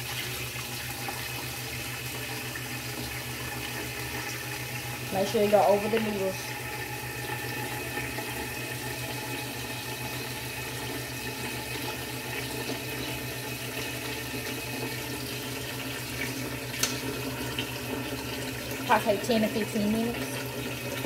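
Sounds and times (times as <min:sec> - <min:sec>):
tap water filling a pot: 0:00.0 - 0:21.0.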